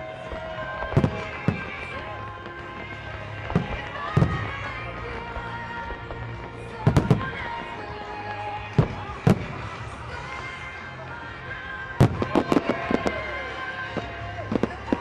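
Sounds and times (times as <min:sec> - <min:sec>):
fireworks bangs and cracks: 0:00.0 - 0:10.6, 0:11.7 - 0:15.0
music: 0:00.0 - 0:15.0.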